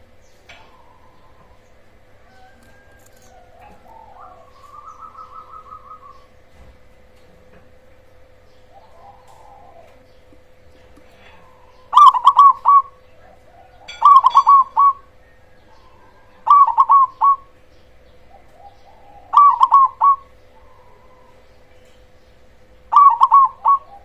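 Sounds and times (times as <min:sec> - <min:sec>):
dove cooing: 0:00.5 - 0:06.4, 0:08.2 - 0:21.8, 0:22.8 - 0:24.0.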